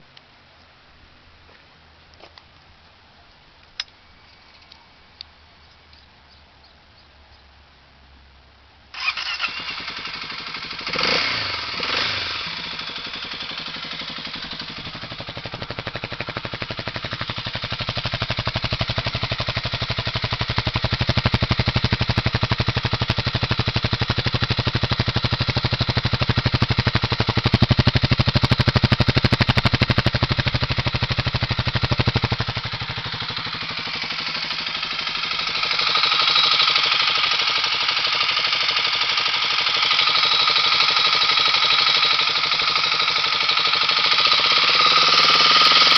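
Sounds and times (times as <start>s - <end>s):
motorcycle engine starting and idling: 8.9s - 45.9s.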